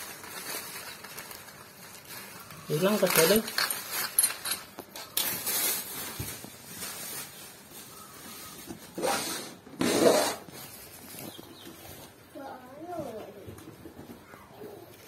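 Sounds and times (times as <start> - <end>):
plastic bags rustling and crinkling: 0.0 - 9.6, 10.2 - 15.0.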